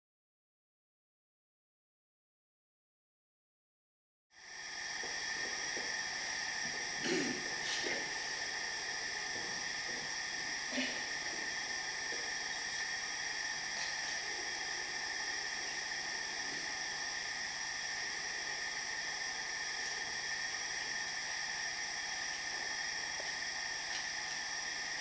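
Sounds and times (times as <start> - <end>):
steady hiss: 4.4 - 25.0.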